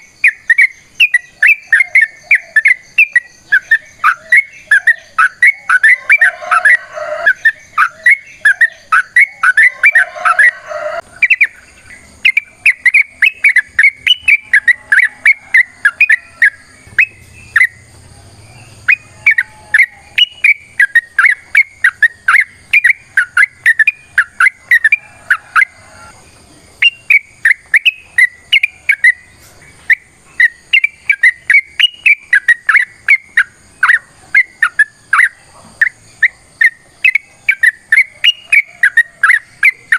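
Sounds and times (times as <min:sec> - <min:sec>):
bulbul singing chattering whistles: 0:00.0 - 0:39.9.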